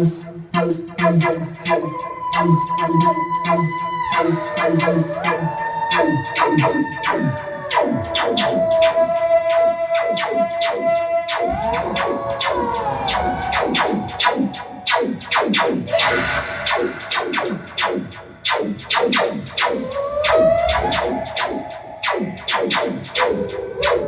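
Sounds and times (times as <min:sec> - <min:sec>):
synthesizer bending held tone: 0:00.6 - 0:24.0.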